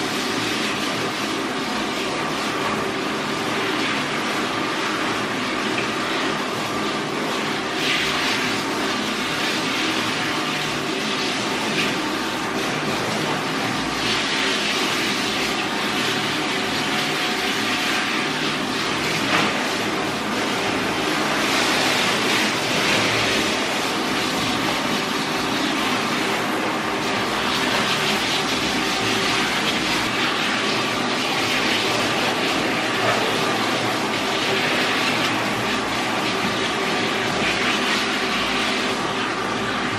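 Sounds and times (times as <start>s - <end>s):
shower sprayer spraying water: 0.0s - 39.9s
steady mechanical hum: 0.0s - 39.9s.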